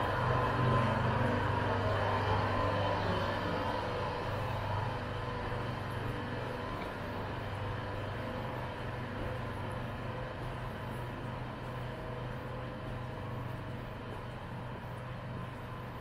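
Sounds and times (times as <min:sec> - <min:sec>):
low mechanical hum: 0:00.0 - 0:16.0
street noise: 0:00.0 - 0:16.0.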